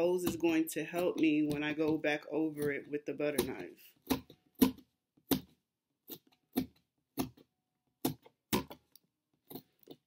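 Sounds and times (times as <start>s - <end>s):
scissors poking cardboard: 0.0s - 10.0s.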